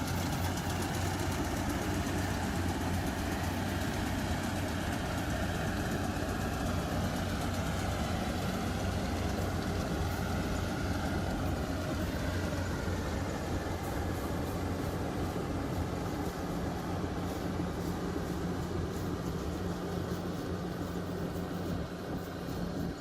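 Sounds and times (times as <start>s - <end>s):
harvester engine humming: 0.0s - 23.0s.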